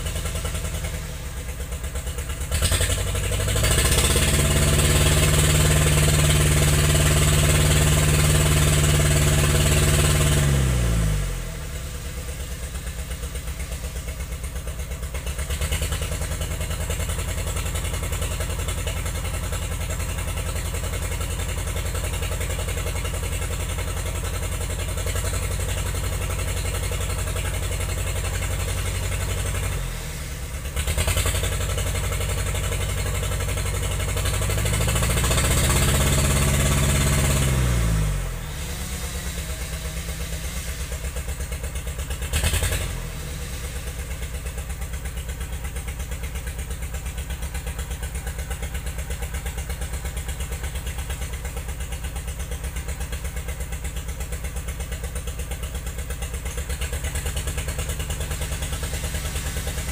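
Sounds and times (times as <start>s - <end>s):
diesel engine revving and idling: 0.0s - 59.9s.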